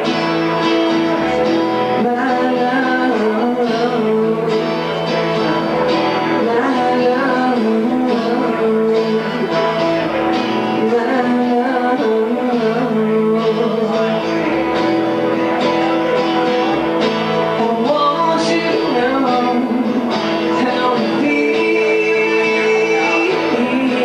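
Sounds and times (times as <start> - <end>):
acoustic-electric guitar: 0.0 - 24.0
bass guitar: 0.0 - 24.0
electric guitar: 0.0 - 24.0
person singing: 0.0 - 24.0.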